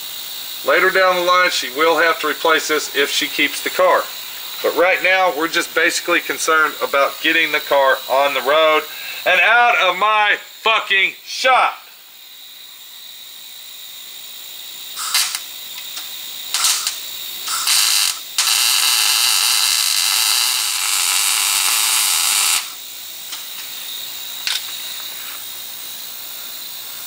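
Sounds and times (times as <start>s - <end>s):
welder arc crackling hiss: 0.0s - 27.0s.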